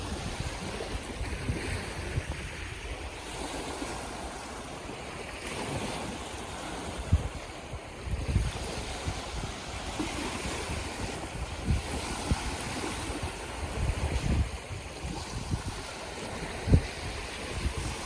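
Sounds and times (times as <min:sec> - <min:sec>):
sea waves washing in: 0:00.0 - 0:18.0
wind buffeting microphone: 0:00.0 - 0:18.0.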